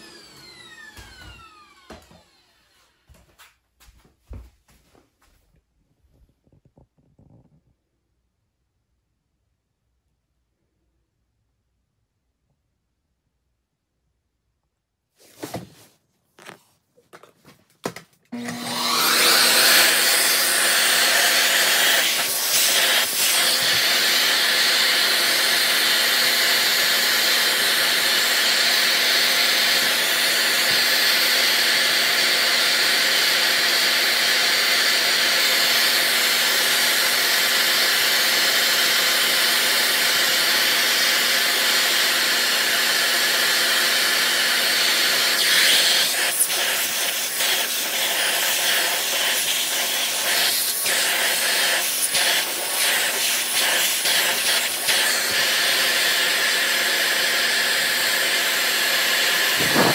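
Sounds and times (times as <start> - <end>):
vacuum cleaner running: 0.0 - 4.4, 15.2 - 59.9.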